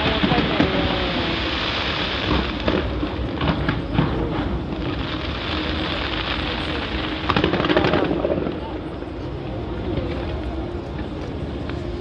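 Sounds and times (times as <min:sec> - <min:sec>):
fireworks crackles and pops: 0:00.0 - 0:12.0
fireworks rumbling bursts: 0:00.0 - 0:12.0.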